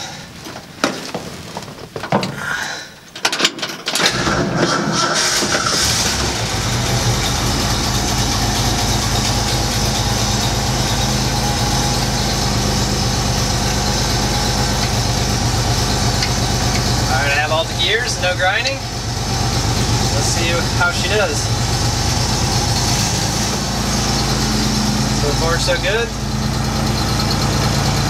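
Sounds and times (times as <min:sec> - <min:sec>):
engine starting and idling: 0:02.6 - 0:28.0.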